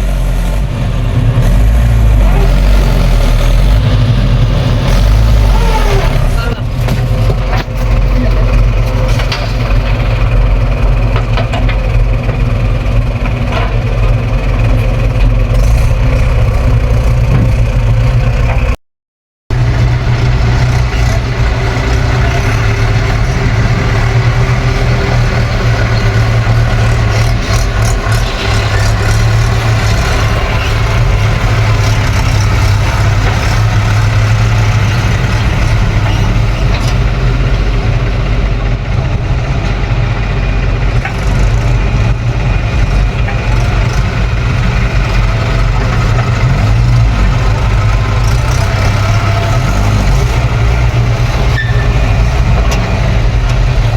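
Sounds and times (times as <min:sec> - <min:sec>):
heavy diesel engines running: 0:00.0 - 0:18.8, 0:19.5 - 0:53.9.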